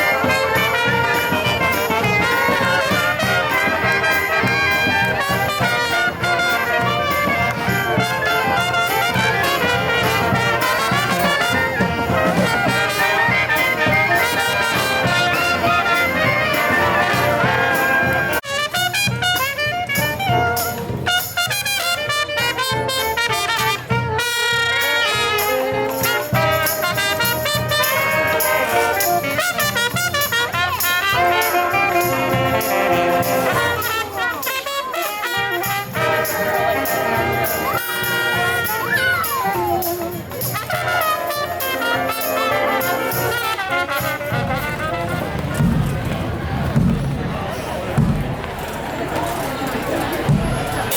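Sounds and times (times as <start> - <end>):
brass band playing: 0.0 - 50.9.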